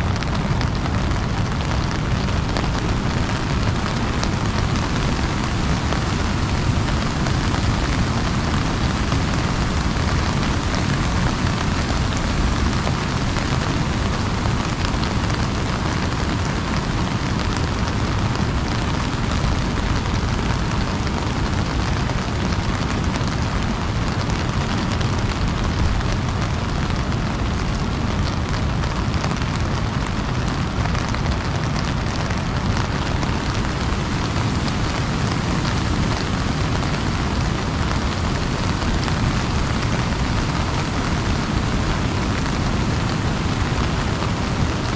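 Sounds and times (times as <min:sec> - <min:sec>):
heavy rain on an umbrella: 0:00.0 - 0:44.9.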